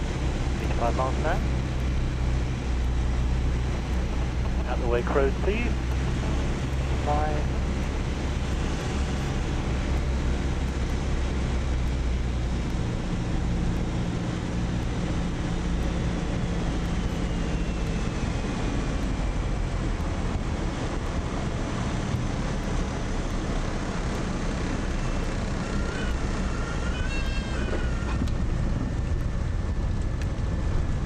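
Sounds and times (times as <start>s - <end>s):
aircraft engine hum: 0.0s - 31.0s.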